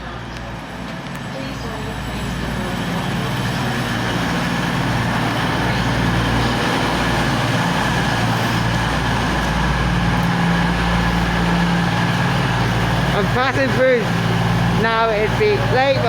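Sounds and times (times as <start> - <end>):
diesel train engines humming: 0.0 - 16.0.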